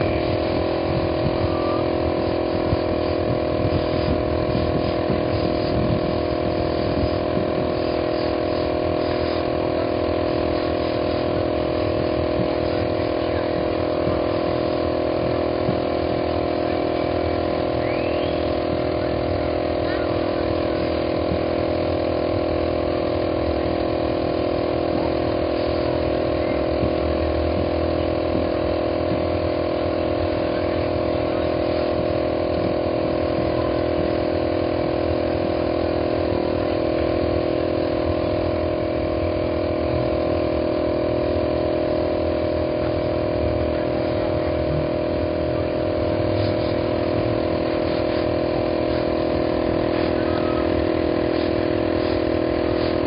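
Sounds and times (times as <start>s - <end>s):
air compressor humming: 0.0s - 53.0s.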